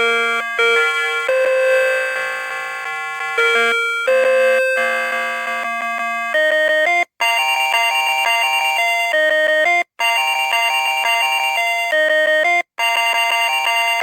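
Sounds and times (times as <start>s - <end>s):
alarm clock electronic tune: 0.0s - 14.0s.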